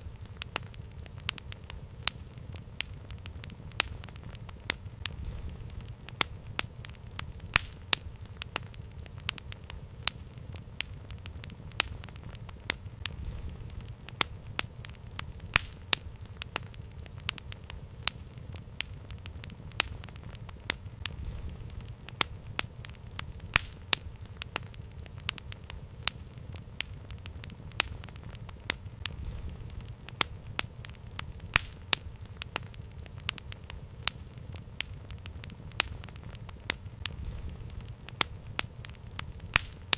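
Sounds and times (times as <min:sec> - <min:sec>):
burning wood popping: 0:00.0 - 0:39.9
campfire crackling: 0:00.0 - 0:39.9
low rumble of flame: 0:00.0 - 0:39.9.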